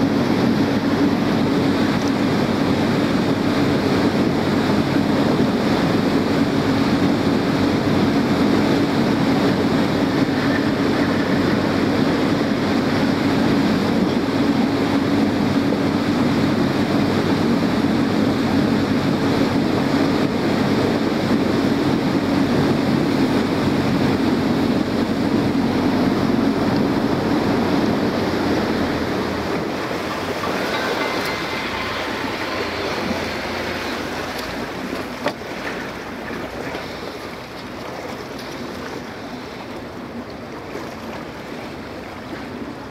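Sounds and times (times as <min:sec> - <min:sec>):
motorboat engine droning: 0:00.0 - 0:42.9
water rushing along hull: 0:00.0 - 0:42.9.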